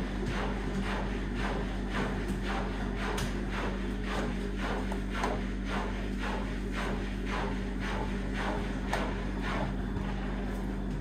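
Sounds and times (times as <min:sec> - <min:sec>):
washing machine drum swishing: 0:00.0 - 0:11.0
washing machine motor hum: 0:00.0 - 0:11.0.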